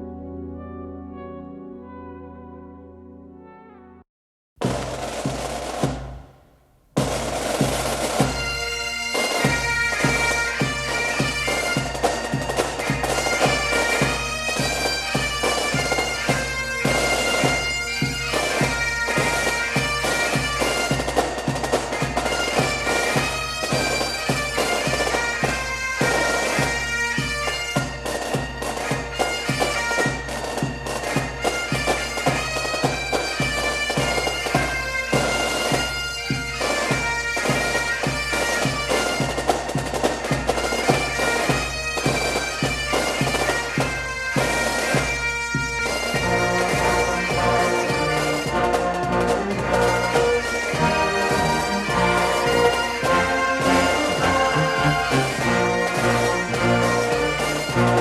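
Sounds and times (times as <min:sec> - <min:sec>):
drum beating: 0:04.6 - 0:58.0
bagpipes playing melody: 0:07.1 - 0:58.0.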